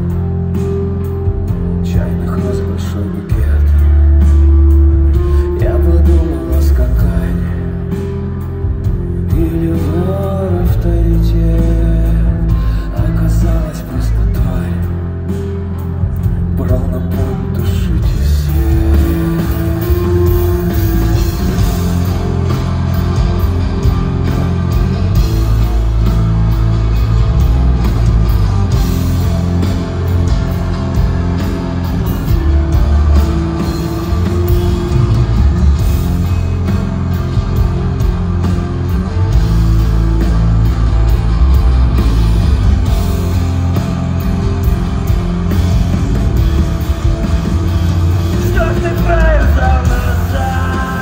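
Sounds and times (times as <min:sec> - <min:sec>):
electric guitar: 0:00.0 - 0:51.0
live rock band playing: 0:00.0 - 0:51.0.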